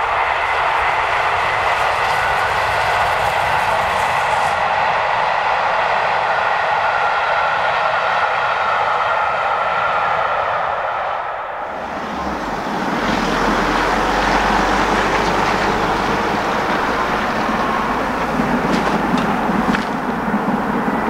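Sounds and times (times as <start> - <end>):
steady rushing noise: 0.0 - 21.0
train wheels rumbling on rails: 0.0 - 21.0.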